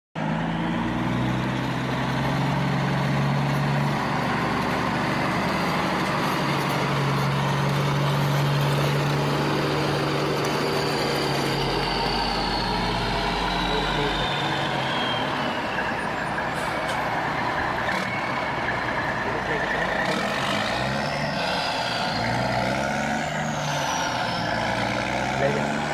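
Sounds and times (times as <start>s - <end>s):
truck engine running: 0.2s - 25.9s.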